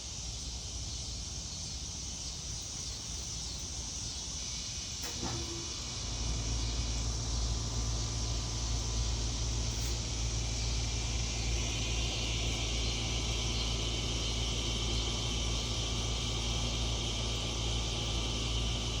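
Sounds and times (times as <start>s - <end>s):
high-pitched hiss: 0.0s - 18.9s.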